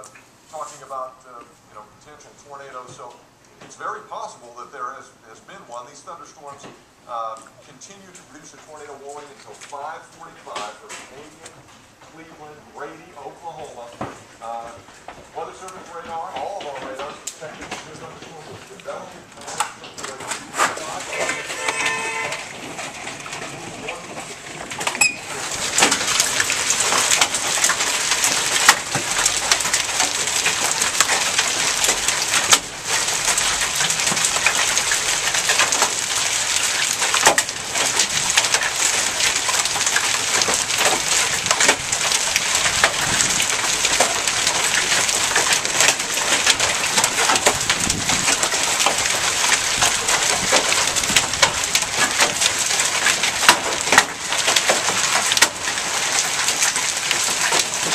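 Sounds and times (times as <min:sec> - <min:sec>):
hail and rain pelting down: 0:07.8 - 0:57.9.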